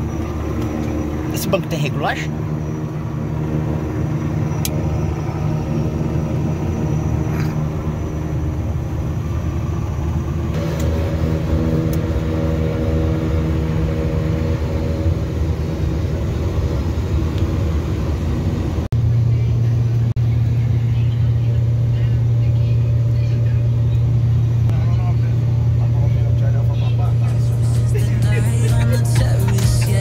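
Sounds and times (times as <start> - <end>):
turboprop engines droning: 0.0 - 30.0.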